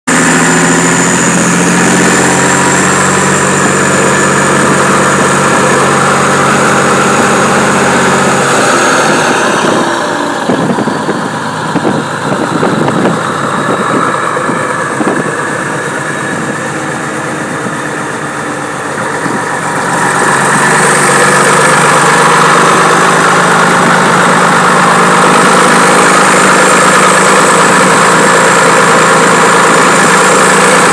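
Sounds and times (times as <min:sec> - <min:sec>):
diesel truck engine rumbling: 0:00.1 - 0:30.9.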